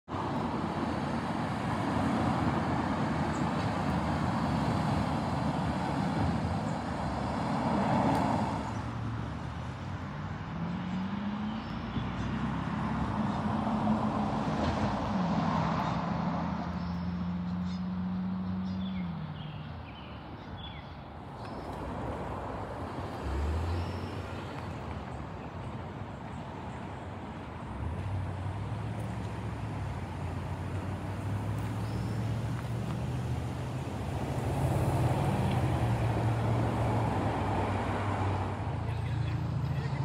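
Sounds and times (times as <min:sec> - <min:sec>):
vehicles passing on road: 0:00.0 - 0:40.0.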